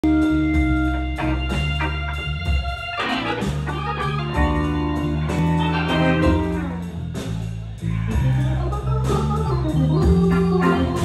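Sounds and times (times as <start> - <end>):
held organ chords: 0.0 - 7.2, 7.9 - 11.0
electric guitar: 0.0 - 11.0
live blues band playing: 0.0 - 11.0.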